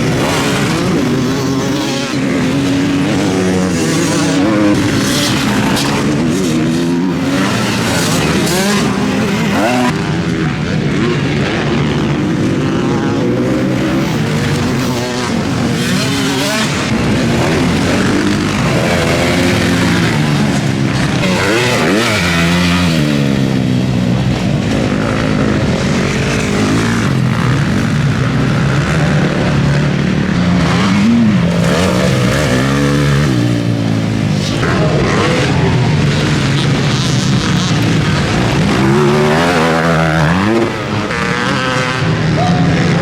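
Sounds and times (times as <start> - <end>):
motocross bikes revving: 0.0 - 43.0.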